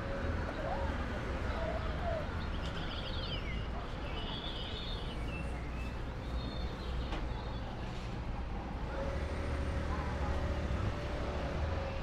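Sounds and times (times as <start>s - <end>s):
low rumble of city street: 0.0s - 12.0s.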